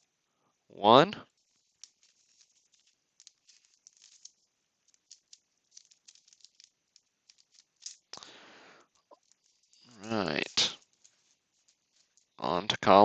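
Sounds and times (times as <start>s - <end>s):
trading cards clicking and rustling: 1.3s - 13.0s.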